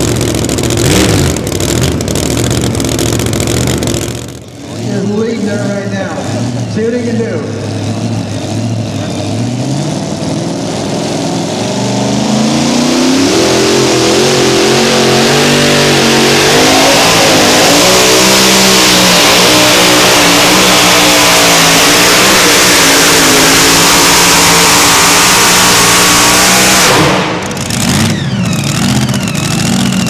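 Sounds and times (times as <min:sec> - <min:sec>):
vehicle engine revving at high revs: 0:00.0 - 0:30.0.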